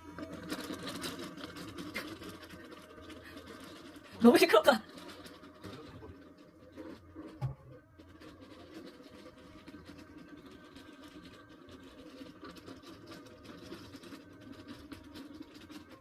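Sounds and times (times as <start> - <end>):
robot vacuum motor hum: 0.0 - 16.0.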